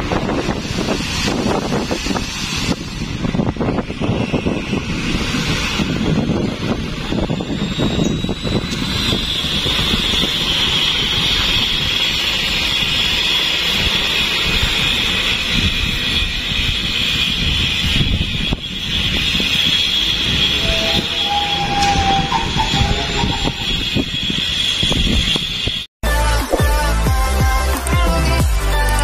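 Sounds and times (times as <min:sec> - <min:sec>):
steady high whine: 0:00.0 - 0:29.0.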